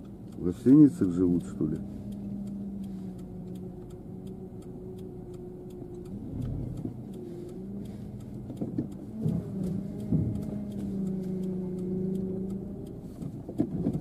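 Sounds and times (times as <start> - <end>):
car engine running at low revs: 0.0 - 14.0
turn signal ticking: 0.0 - 14.0.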